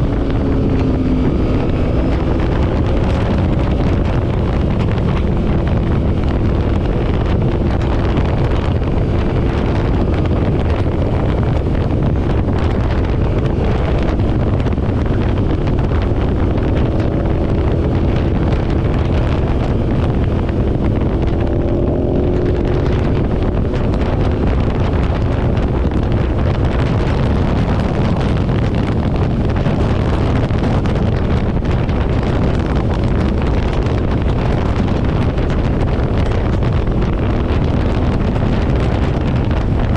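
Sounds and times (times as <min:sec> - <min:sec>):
motorcycle engine hum: 0:00.0 - 0:39.9
wind rushing over microphone: 0:00.0 - 0:39.9.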